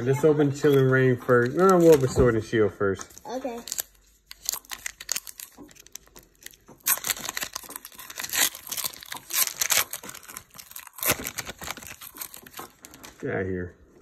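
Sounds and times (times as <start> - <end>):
foil wrapper tearing and crinkling: 0.6 - 2.2, 3.1 - 13.2.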